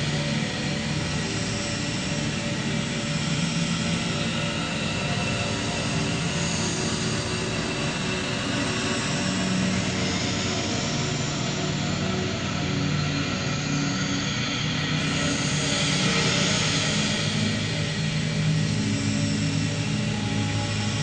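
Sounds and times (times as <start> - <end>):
droning music: 0.0 - 21.0.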